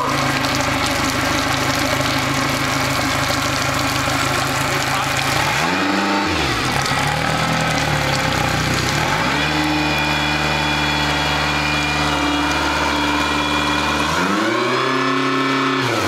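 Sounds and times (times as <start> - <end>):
outboard engine running: 0.0 - 16.0.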